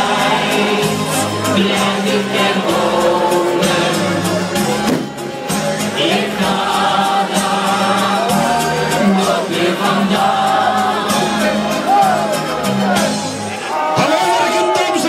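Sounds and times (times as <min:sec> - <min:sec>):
crowd singing in chorus: 0:00.0 - 0:15.0
music: 0:00.0 - 0:15.0.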